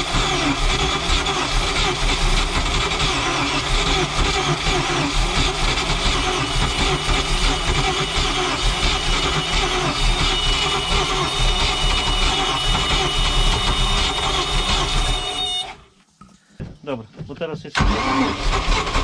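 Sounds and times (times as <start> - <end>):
boat engine running: 0.0 - 15.7.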